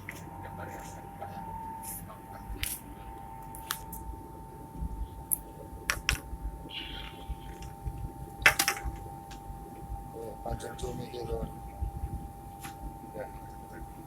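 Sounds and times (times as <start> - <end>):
steady hum and low rumble: 0.0 - 14.0.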